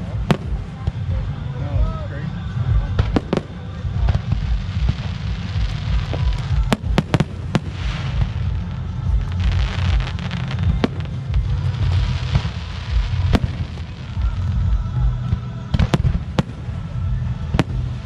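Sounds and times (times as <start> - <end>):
fireworks crackling: 0.0 - 18.0
steady low rumble: 0.0 - 18.0.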